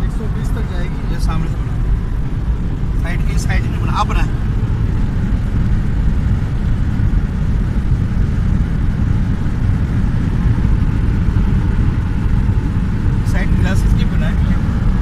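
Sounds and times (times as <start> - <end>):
car interior road rumble: 0.0 - 15.0.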